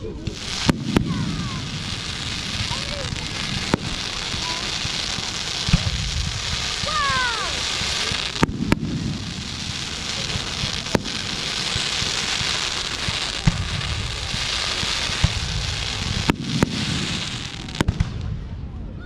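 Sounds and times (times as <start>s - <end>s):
fireworks crackling: 0.0s - 18.7s
low rumble of firework bursts: 0.0s - 19.0s
sharp firework bangs: 0.3s - 18.4s.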